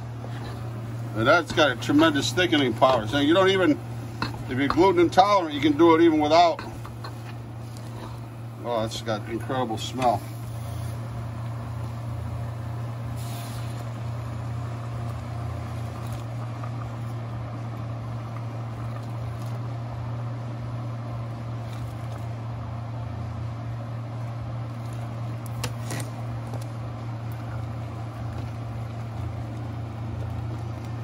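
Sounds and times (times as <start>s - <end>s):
pots boiling on stove: 0.0s - 31.0s
steady low hum: 0.0s - 31.0s.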